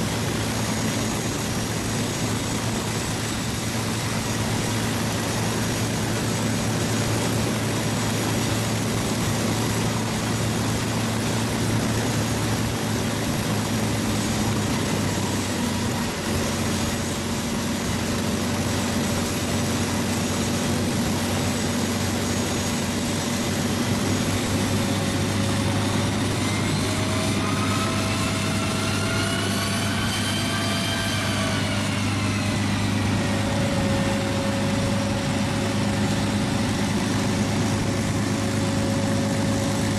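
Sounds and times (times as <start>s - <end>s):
engine whine: 0.0s - 39.9s
propeller plane engine idling: 0.0s - 39.9s.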